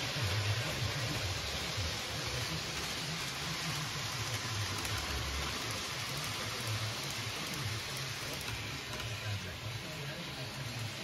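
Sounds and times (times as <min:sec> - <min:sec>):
model train rolling on track: 0:00.0 - 0:11.0.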